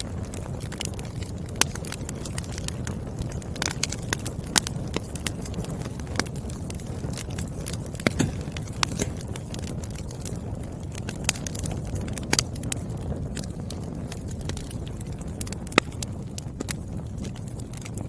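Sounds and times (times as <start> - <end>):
firewood crackling and popping: 0.0 - 18.0
low rumble of flames: 0.0 - 18.0.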